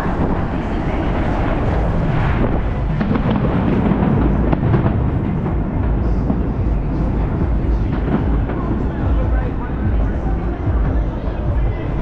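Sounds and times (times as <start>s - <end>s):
fireworks cracking: 0.0s - 12.0s
steady low rumble: 0.0s - 12.0s.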